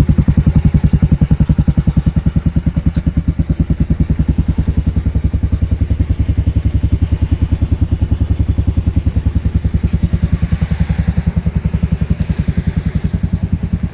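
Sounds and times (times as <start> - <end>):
scooter engine idling: 0.0 - 13.9.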